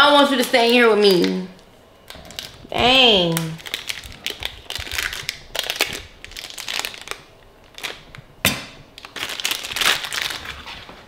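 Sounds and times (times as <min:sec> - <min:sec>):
plastic wrapper crinkling: 0:01.0 - 0:08.3, 0:08.9 - 0:11.0.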